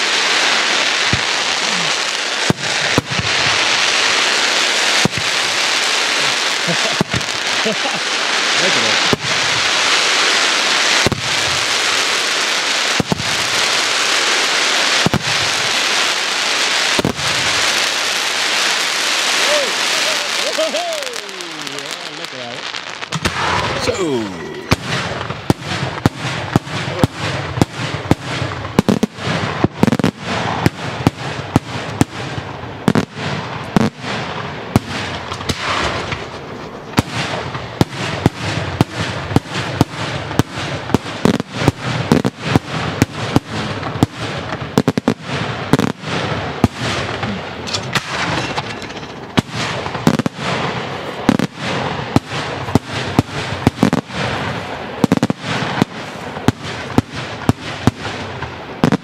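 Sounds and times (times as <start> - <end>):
firework shells bursting: 0.0 - 23.9, 24.5 - 59.0
fireworks crackle: 0.0 - 59.0.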